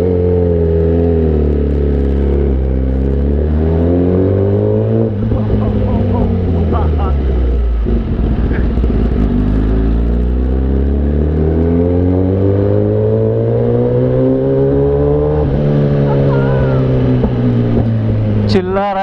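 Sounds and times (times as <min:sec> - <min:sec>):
motorcycle engine accelerating: 0:00.0 - 0:19.0
riding wind rush: 0:02.3 - 0:19.0.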